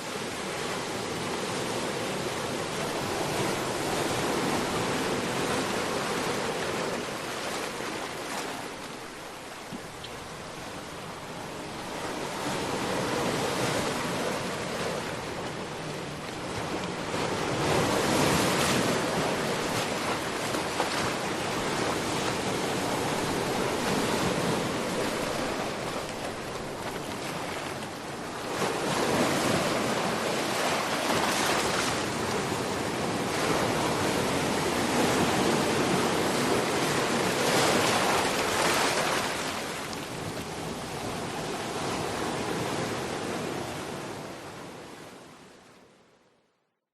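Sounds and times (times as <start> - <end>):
ocean waves breaking: 0.0 - 45.2.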